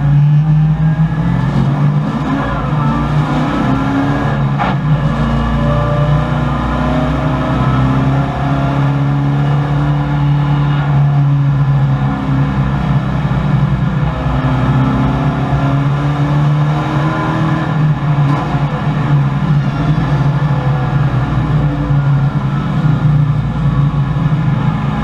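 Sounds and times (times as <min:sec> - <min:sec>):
race car engine running hard: 0:00.0 - 0:25.0.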